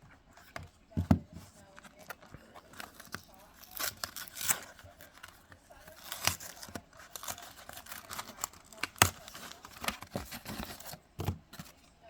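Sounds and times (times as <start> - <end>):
booster pack crinkling and tearing: 1.5 - 11.8.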